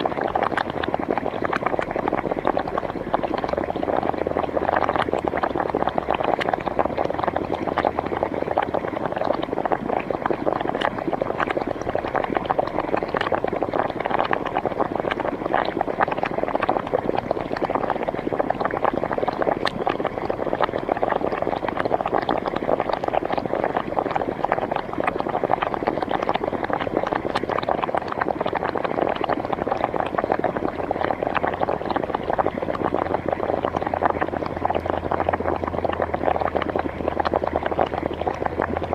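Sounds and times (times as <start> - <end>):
water bubbling and gurgling: 0.0 - 38.9.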